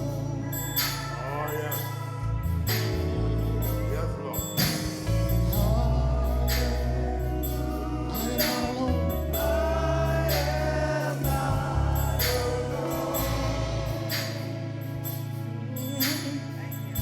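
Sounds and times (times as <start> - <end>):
gospel choir and congregation singing: 0.0 - 17.0
organ or keyboard bass: 0.0 - 17.0.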